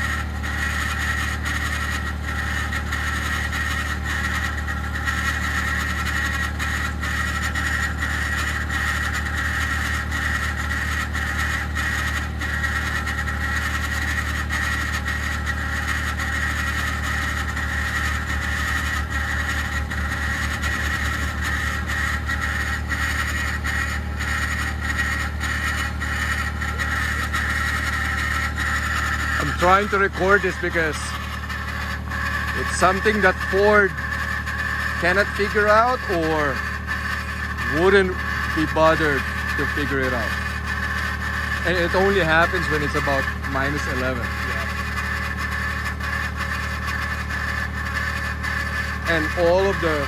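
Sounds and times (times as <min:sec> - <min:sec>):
grinding cavitating whir: 0:00.0 - 0:50.0
truck engine idling: 0:00.0 - 0:50.0.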